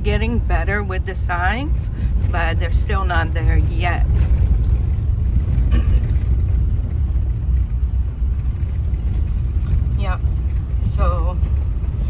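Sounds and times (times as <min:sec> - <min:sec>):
car engine and tyre noise from inside: 0:00.0 - 0:12.0.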